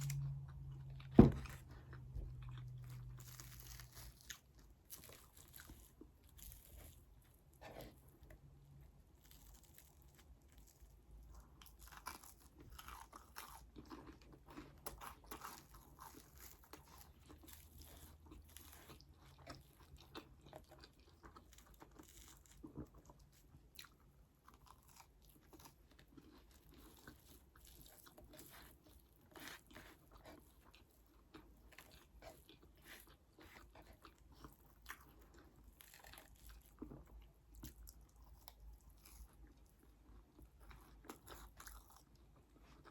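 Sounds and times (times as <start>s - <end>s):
crisp crunching and chewing: 0.0s - 42.9s.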